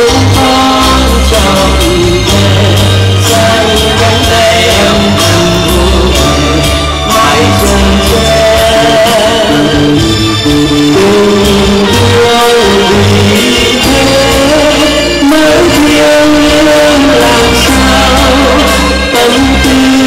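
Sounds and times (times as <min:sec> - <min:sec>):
amplified backing music: 0:00.0 - 0:20.0
man singing through pa: 0:00.0 - 0:20.0.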